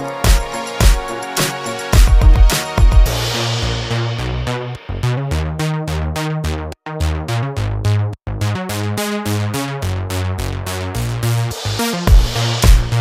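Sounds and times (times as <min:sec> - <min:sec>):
electronic music with drum-machine beat: 0:00.0 - 0:07.6, 0:08.4 - 0:13.0.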